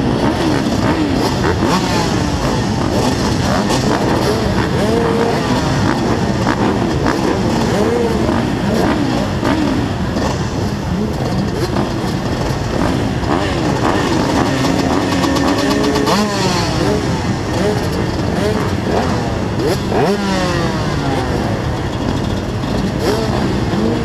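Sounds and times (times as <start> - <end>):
motocross bikes idling and revving: 0.0 - 24.0.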